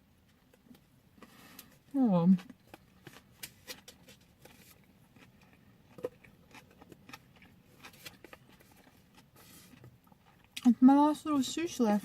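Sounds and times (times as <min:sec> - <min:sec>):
eating and food handling: 0:00.2 - 0:12.0.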